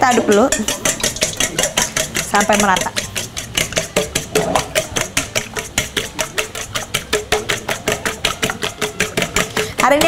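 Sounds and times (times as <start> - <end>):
whisk clinking in metal bowl: 0.0 - 10.0.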